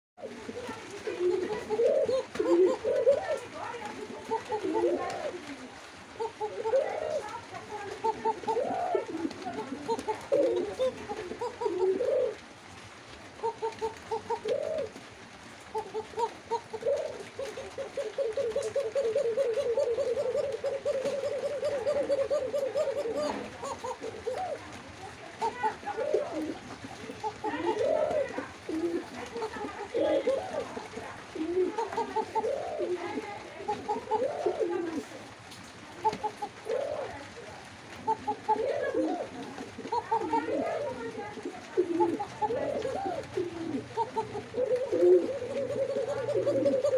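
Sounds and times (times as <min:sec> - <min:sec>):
pigeons cooing: 0:00.2 - 0:46.9.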